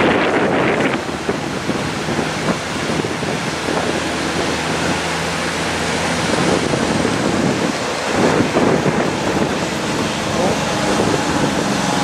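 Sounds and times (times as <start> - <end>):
low vehicle engine drone: 0.0 - 12.0
tyres hissing on wet road: 0.0 - 12.0
wind buffeting microphone: 0.0 - 12.0.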